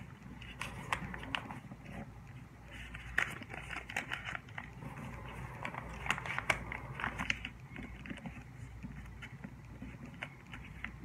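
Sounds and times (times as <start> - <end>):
paper crinkling as folded: 0.0 - 11.0.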